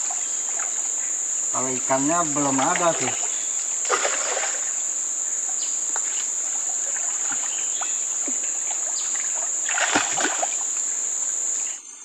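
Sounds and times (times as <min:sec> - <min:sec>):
water dripping and splashing: 0:00.0 - 0:01.1, 0:01.8 - 0:10.8
insects shrilling: 0:00.0 - 0:12.0.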